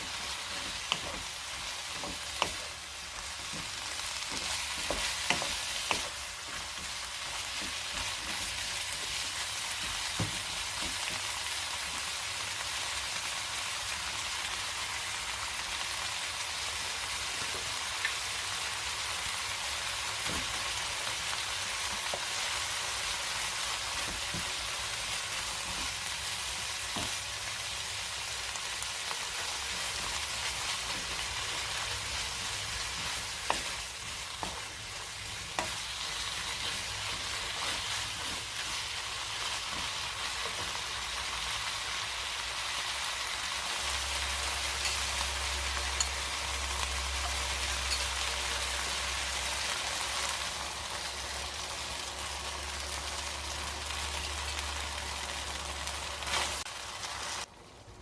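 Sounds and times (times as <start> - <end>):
food sizzling in a pan: 0.0 - 57.5.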